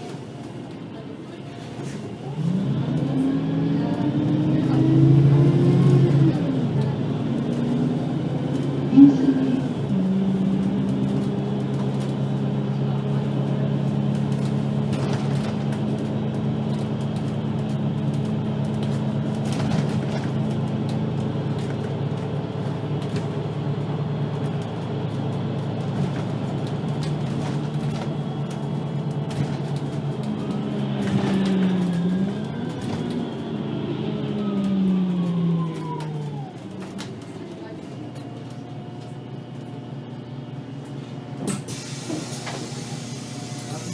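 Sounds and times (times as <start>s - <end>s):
bus diesel engine running: 0.0s - 43.9s.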